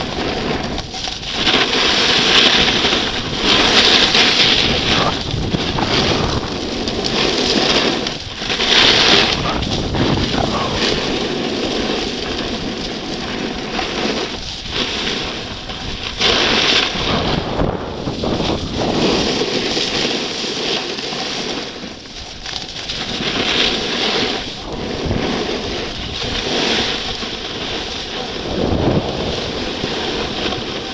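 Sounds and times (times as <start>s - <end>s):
skis scraping packed snow: 0.0s - 30.9s
wind rushing over microphone: 0.0s - 30.9s.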